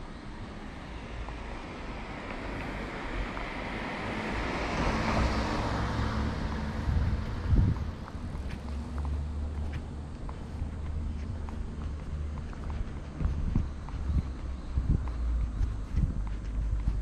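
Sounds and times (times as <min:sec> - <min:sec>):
car passing: 0:00.0 - 0:17.0
low engine hum: 0:00.0 - 0:17.0.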